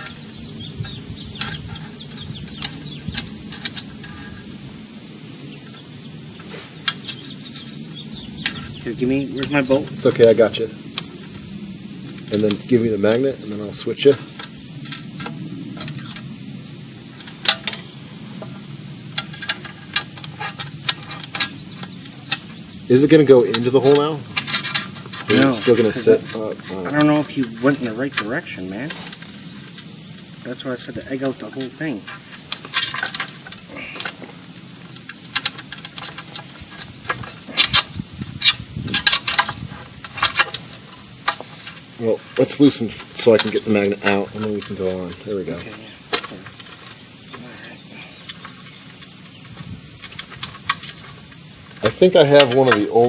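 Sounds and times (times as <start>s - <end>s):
metal clicks and scrapes: 0.0s - 4.8s, 5.6s - 11.4s, 12.1s - 53.0s
steady hiss: 0.0s - 53.0s
steady low hum: 0.0s - 53.0s.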